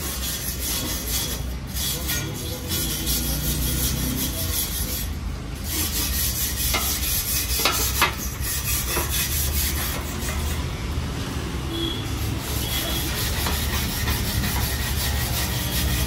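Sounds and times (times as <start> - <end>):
hand rubbing and scraping wood: 0.0 - 10.8, 12.2 - 16.0.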